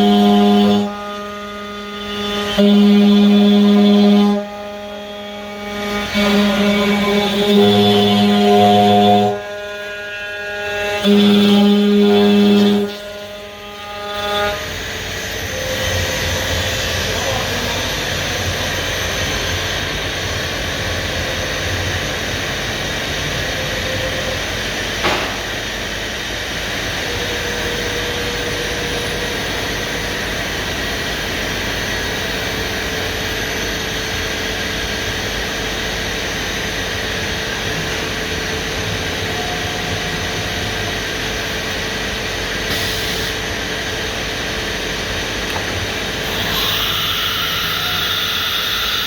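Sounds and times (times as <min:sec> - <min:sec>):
cnc router running: 0:00.0 - 0:49.0.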